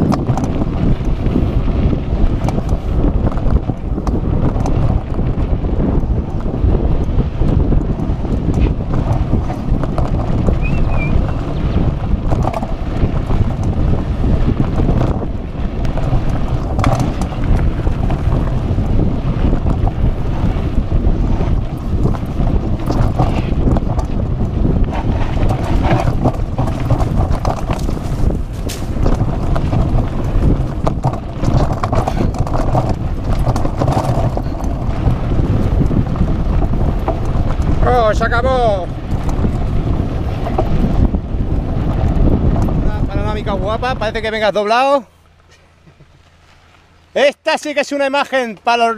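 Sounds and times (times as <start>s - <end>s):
mountain bike rattling on dirt trail: 0.0s - 48.9s
wind buffeting microphone: 0.0s - 48.9s.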